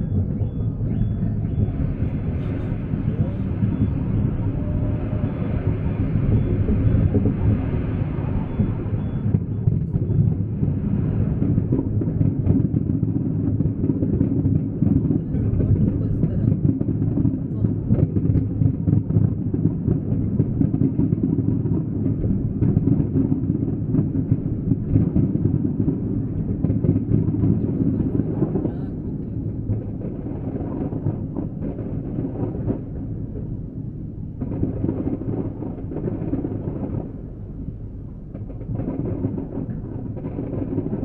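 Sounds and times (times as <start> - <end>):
fireworks exploding: 0.0 - 41.0.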